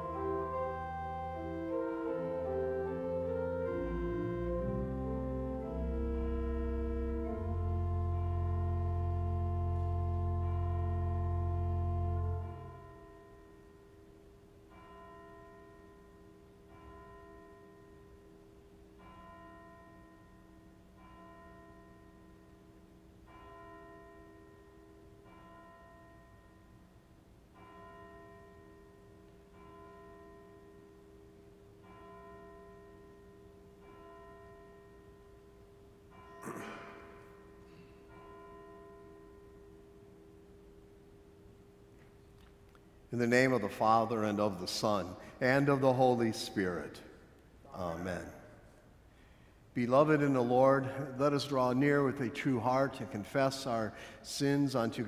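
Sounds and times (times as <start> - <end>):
church bell tolling: 0.0 - 41.6, 43.2 - 48.7, 49.8 - 55.0.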